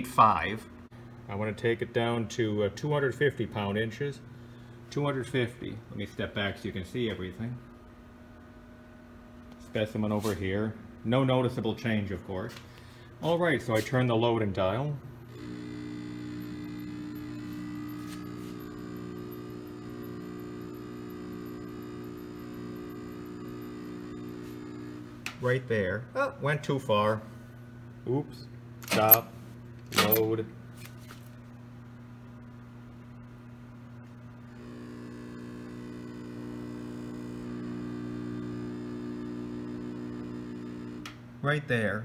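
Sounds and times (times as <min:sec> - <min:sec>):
high steady whine: 0:00.0 - 0:26.1, 0:31.4 - 0:41.4
testing machine humming: 0:00.0 - 0:30.6, 0:31.7 - 0:41.4.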